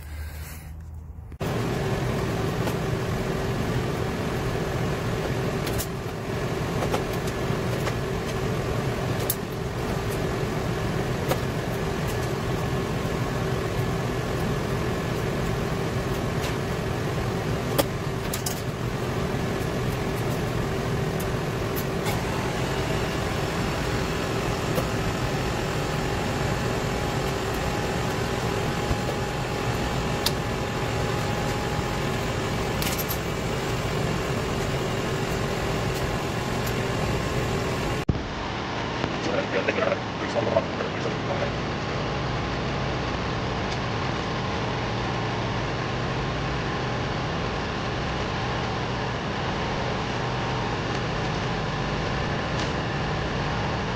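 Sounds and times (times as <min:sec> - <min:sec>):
cooling unit drone: 0:00.0 - 0:53.9.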